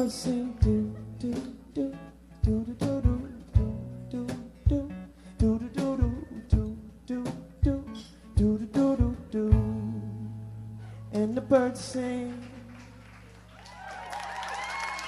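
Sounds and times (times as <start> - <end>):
acoustic guitar strumming: 0.0 - 12.6.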